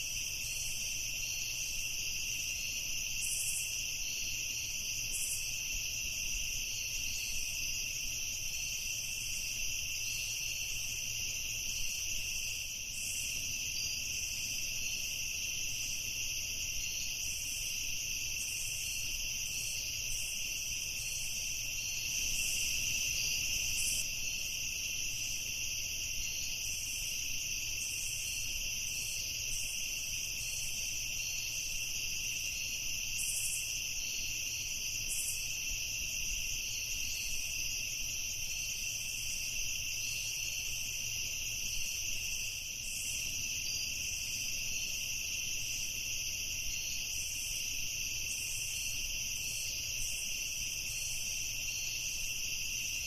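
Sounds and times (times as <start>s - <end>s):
crickets and insects trilling: 0.0s - 53.0s.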